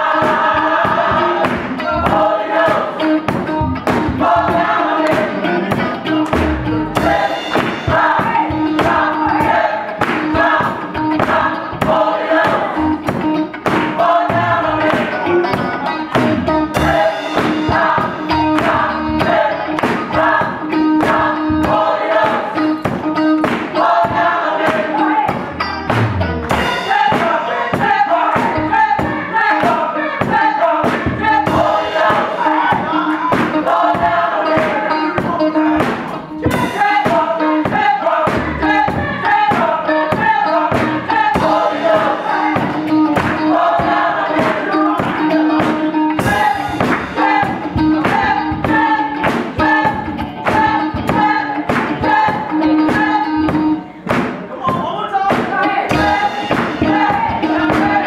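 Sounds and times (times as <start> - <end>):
gospel choir singing: 0.0 - 25.7, 26.5 - 58.0
live band: 0.0 - 58.0
percussive beat: 0.0 - 58.0.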